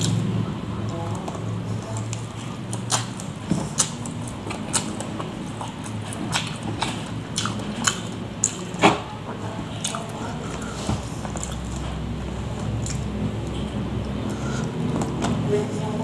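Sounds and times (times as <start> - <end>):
wet chewing smacks and clicks: 0.0 - 9.0, 9.7 - 15.4
faint low hum: 0.0 - 16.0.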